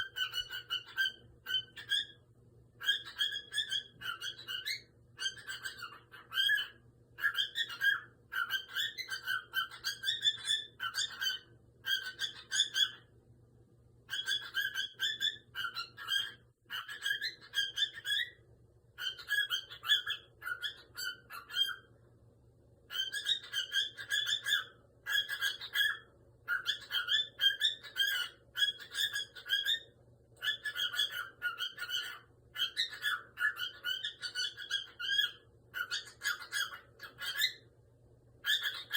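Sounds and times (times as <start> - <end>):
cockatiel chattering and whistling: 0.0 - 2.2, 2.8 - 13.1, 14.1 - 18.4, 19.0 - 21.9, 22.9 - 37.6, 38.4 - 38.9.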